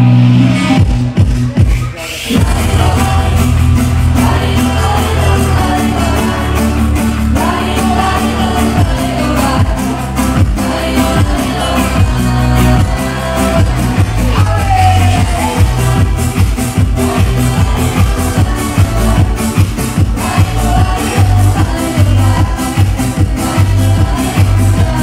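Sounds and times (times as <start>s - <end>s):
pop music with dance beat: 0.0s - 25.0s
woman singing: 2.3s - 25.0s.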